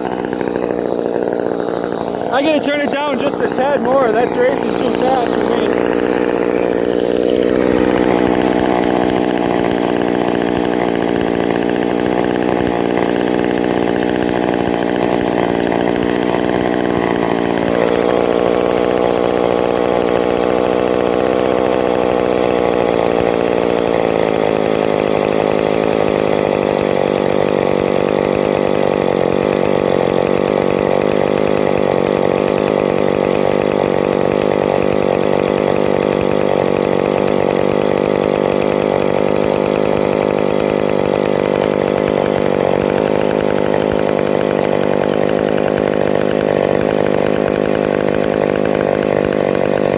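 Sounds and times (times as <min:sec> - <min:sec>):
chainsaw engine idling fast: 0:00.0 - 0:49.9.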